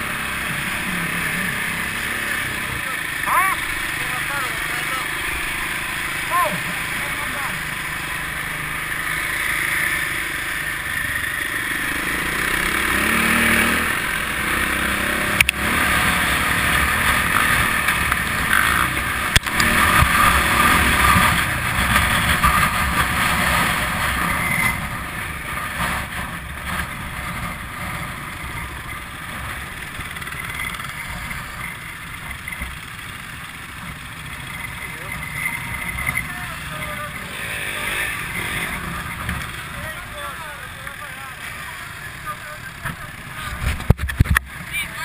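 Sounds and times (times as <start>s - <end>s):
dirt bike engine running: 0.0s - 45.0s.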